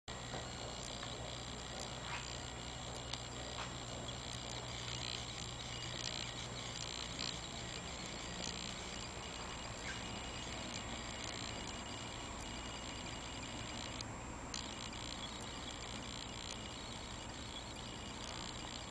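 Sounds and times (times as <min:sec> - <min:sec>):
low hum: 0:00.1 - 0:18.9
room tone hiss: 0:00.1 - 0:18.9
faint clicks: 0:00.3 - 0:18.9.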